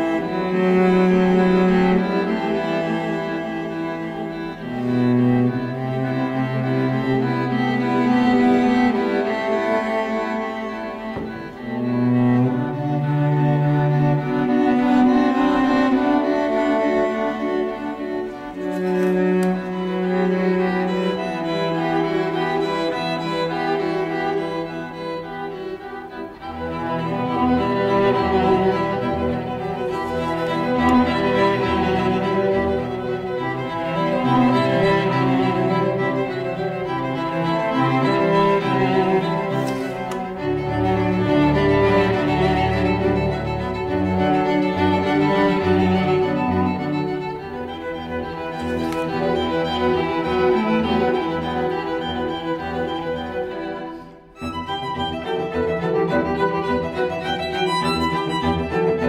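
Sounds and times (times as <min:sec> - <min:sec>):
slow bowed string music: 0:00.0 - 0:59.0.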